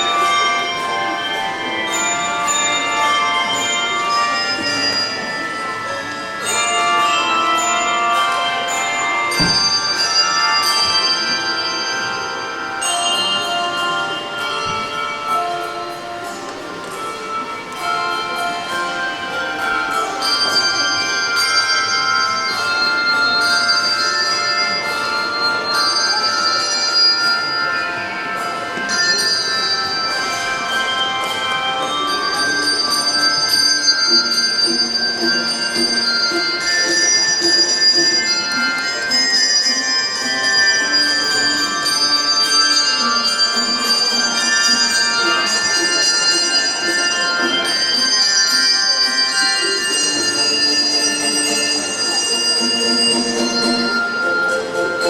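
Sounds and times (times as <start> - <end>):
handbell choir playing chords: 0.0 - 55.0.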